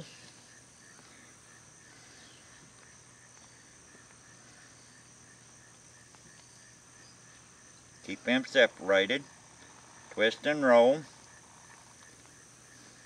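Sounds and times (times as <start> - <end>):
insect buzzing: 0.0 - 13.0
insect chirping: 0.0 - 13.0.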